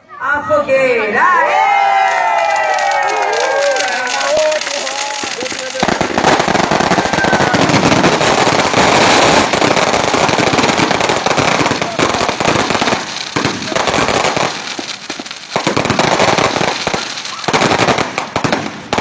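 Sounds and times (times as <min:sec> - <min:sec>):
firecrackers popping: 0:02.0 - 0:19.0.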